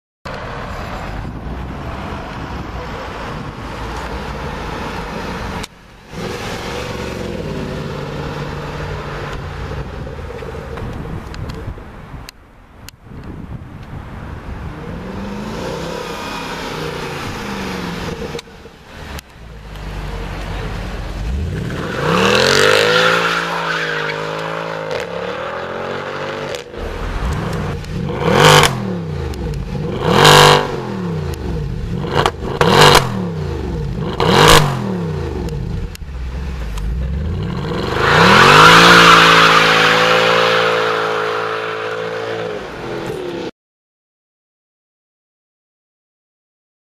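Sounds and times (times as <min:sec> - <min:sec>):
car engine revving: 0:00.4 - 0:10.7, 0:14.7 - 0:43.5.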